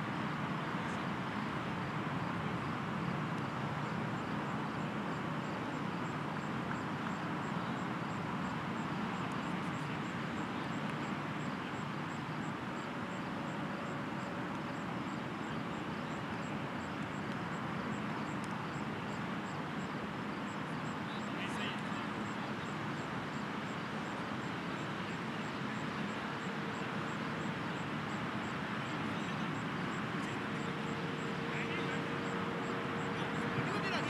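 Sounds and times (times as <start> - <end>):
outdoor background noise: 0.0 - 34.0.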